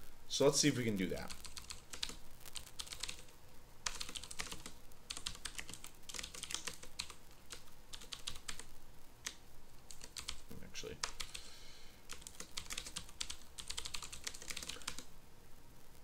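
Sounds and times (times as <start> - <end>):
computer keyboard typing: 1.2 - 11.4, 12.1 - 15.1.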